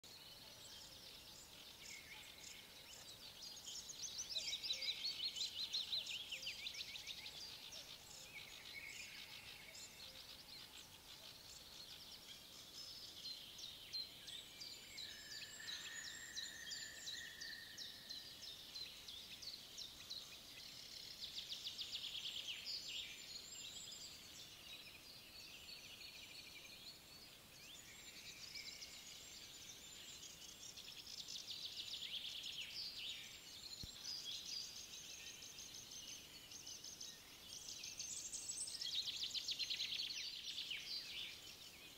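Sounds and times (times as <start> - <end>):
songbirds trilling and chirping: 0.0 - 41.9.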